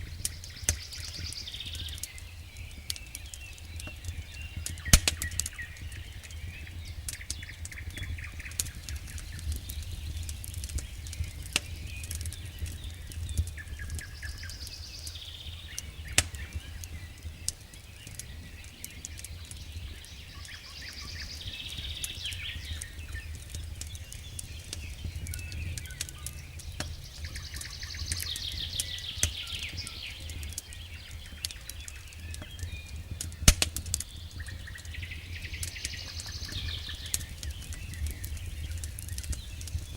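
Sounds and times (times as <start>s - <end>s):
logs crackling and popping: 0.0s - 39.9s
low fire rumble: 0.0s - 39.9s.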